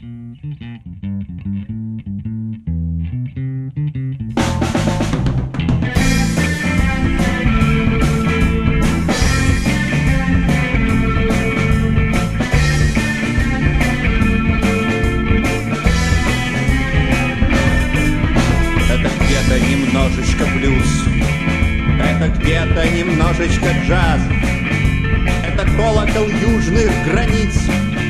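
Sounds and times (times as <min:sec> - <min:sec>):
bass guitar: 0:00.0 - 0:28.0
electric guitars: 0:00.0 - 0:28.0
drum kit beat: 0:04.3 - 0:28.0.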